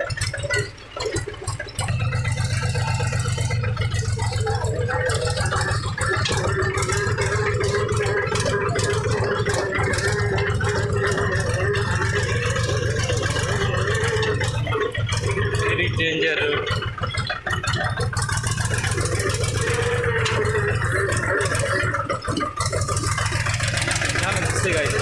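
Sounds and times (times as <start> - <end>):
tractor diesel engine running: 0.0 - 25.0
tractor rattling over bumps: 0.0 - 25.0.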